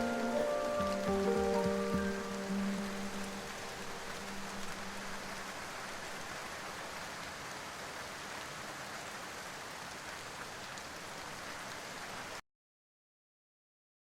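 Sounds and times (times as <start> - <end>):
steady rain: 0.0 - 12.4.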